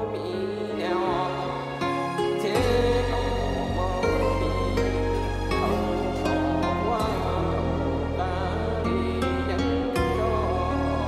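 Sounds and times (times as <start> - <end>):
music with sustained notes: 0.0 - 11.0.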